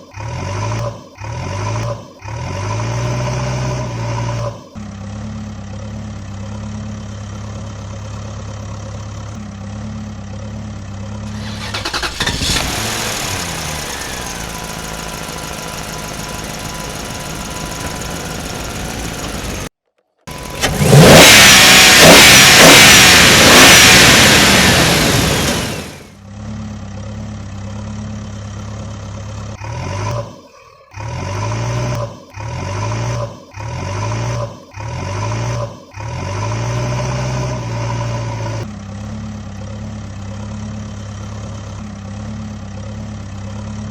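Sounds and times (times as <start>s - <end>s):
heavy vehicle engine revving: 0.2s - 19.7s, 20.3s - 43.9s.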